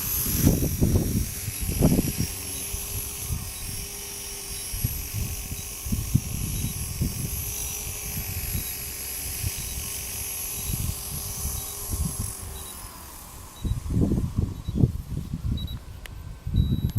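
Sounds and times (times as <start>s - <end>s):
rc helicopter motor whining: 0.0s - 16.9s
wind buffeting microphone: 0.0s - 16.9s.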